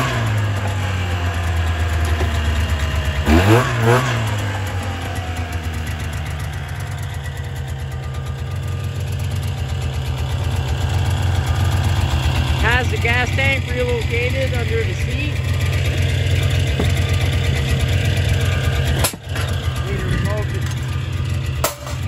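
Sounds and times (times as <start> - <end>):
snowmobile engine idling: 0.0 - 22.0.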